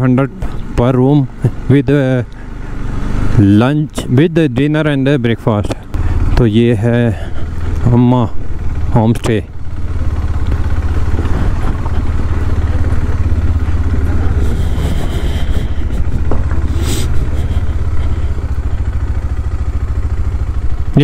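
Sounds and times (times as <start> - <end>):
motorcycle engine running at low revs: 0.0 - 21.0.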